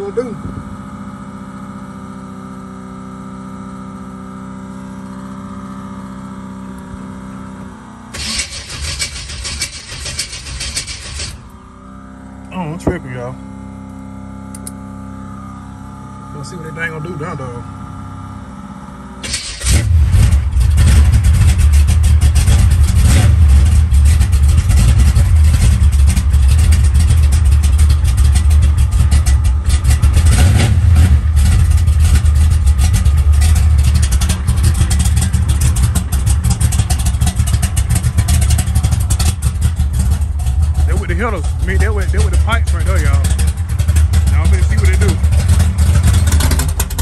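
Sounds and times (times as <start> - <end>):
car engine starting: 0.0 - 47.0
deep exhaust rumble: 0.0 - 47.0.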